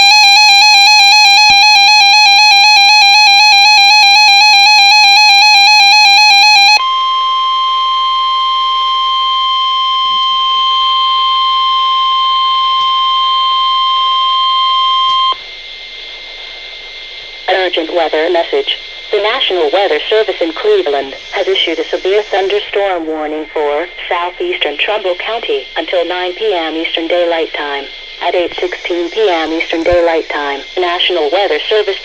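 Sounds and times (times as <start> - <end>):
steady alarm tone: 0.0 - 32.0.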